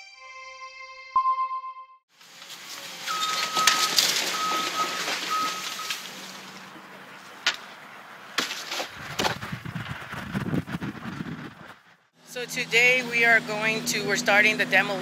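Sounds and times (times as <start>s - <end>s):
road traffic passing: 2.1s - 15.0s.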